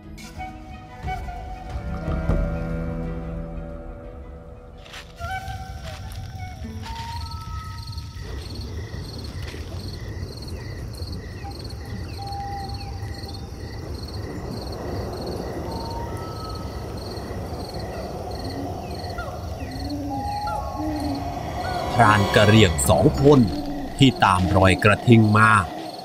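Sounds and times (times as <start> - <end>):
insect chirping: 4.8 - 26.0.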